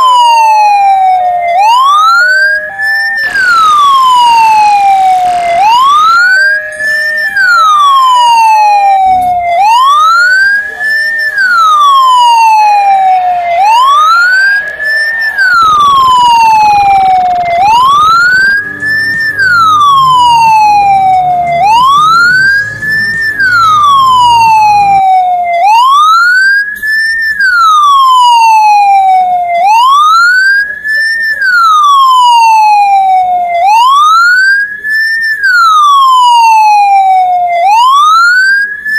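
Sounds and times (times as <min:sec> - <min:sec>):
ambulance siren wailing: 0:00.0 - 0:38.9.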